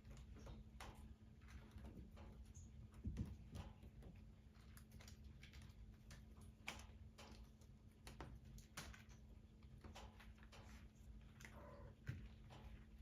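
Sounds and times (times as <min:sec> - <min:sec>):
fireplace crackling and popping: 0:00.0 - 0:13.0.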